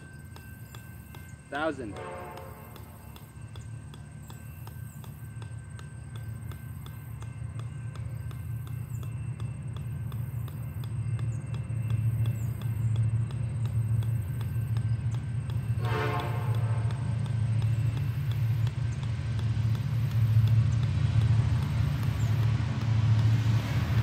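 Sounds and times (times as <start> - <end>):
ball bouncing on metal: 0.0 - 24.0.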